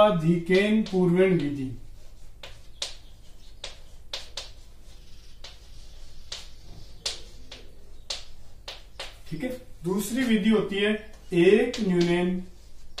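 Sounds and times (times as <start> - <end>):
chalk scratching on blackboard: 0.0 - 13.0.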